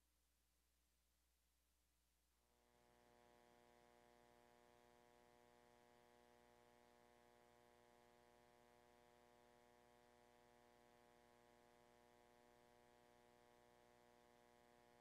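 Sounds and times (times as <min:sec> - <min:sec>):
faint electrical hum and hiss: 0:01.1 - 0:15.0.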